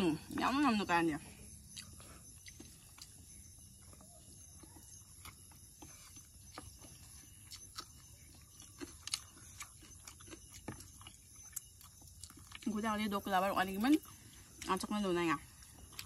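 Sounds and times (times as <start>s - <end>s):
people chewing with mouth clicks: 0.0s - 16.0s.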